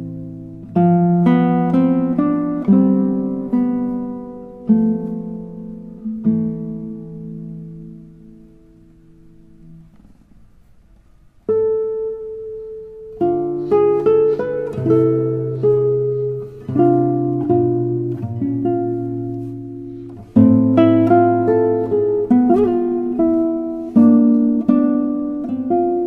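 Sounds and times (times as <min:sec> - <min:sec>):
classical guitar playing: 0:00.0 - 0:26.0.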